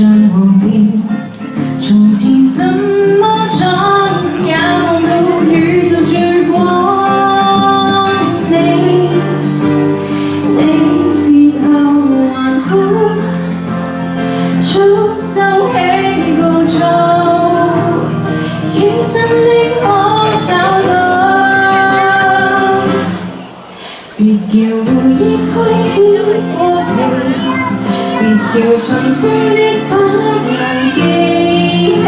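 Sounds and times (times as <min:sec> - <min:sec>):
amplified backing music: 0:00.0 - 0:32.0
woman singing: 0:00.0 - 0:32.0.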